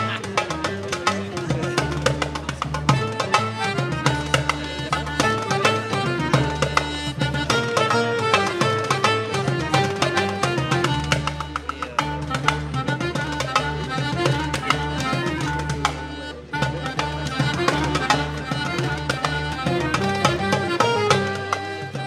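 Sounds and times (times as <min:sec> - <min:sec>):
hand drum rhythm: 0:00.0 - 0:22.0
instrumental melody: 0:00.0 - 0:22.0.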